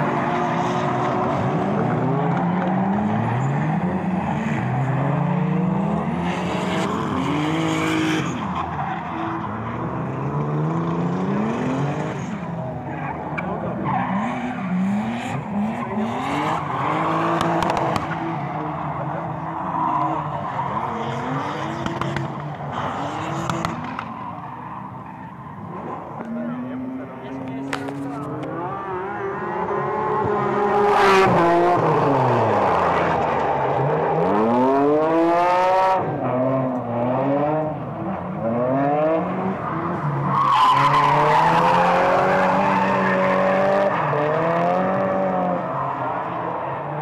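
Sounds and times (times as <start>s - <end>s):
car engines revving: 0.0s - 47.0s
tyres skidding and squealing: 0.0s - 47.0s.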